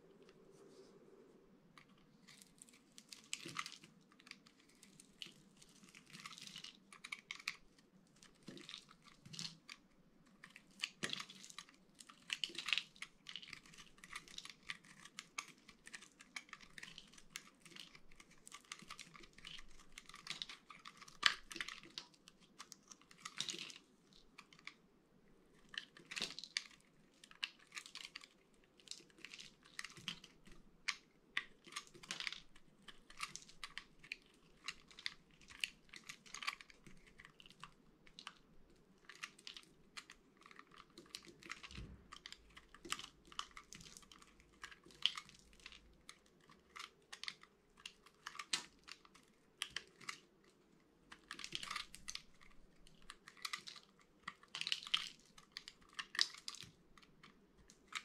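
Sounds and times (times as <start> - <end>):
knife shaving dry soap: 1.8 - 58.0.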